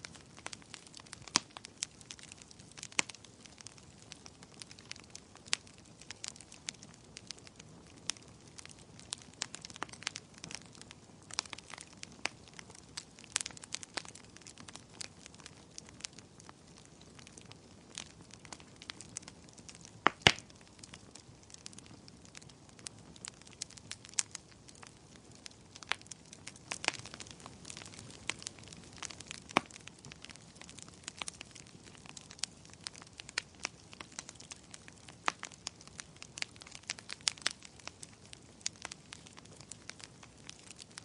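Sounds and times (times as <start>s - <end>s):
fire pops and snaps: 0.0s - 41.0s
wood fire crackling: 0.0s - 41.0s.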